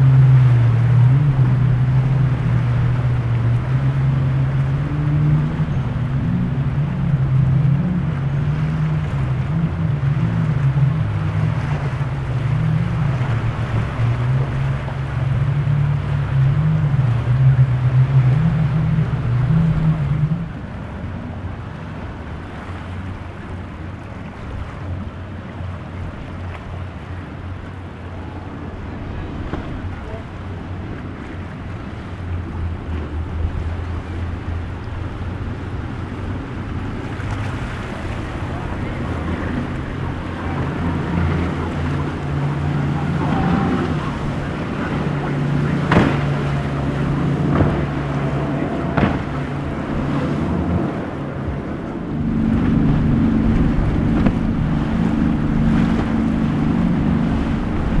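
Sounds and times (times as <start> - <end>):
powerboat engines droning: 0.0 - 58.0
rush of water and wind: 0.0 - 58.0.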